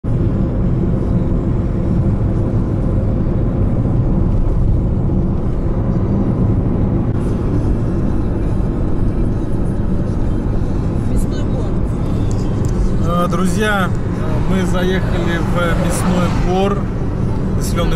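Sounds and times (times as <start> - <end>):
car interior road and engine noise: 0.0 - 17.9.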